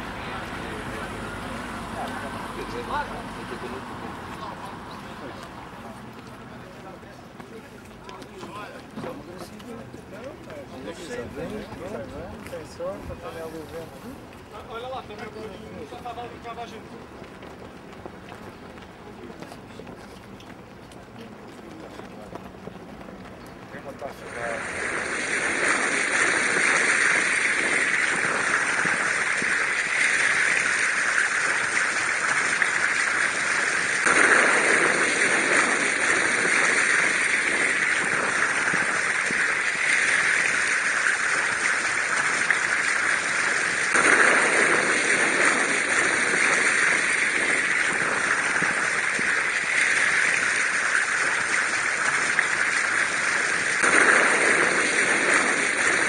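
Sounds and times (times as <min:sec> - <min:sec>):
steady rushing water-like noise: 0:00.0 - 0:19.9, 0:23.8 - 0:56.0.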